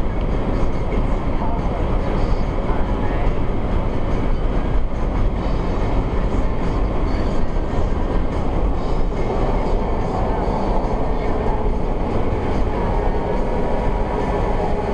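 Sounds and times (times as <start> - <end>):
car driving fast from inside: 0.1 - 14.9.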